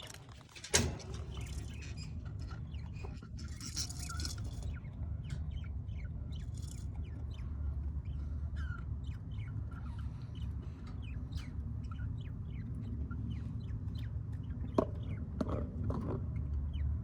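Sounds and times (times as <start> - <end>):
birds chirping: 0.0 - 17.0
steady low rumble: 0.7 - 15.4.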